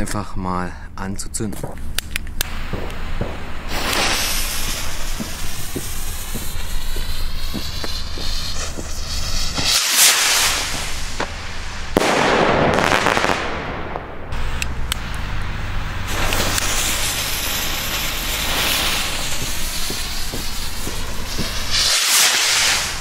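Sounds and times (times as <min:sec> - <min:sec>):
sharp pops: 0:01.6 - 0:15.2, 0:16.1 - 0:23.0
firework fuse fizzing: 0:01.8 - 0:23.0
rocket launch whoosh: 0:02.4 - 0:23.0.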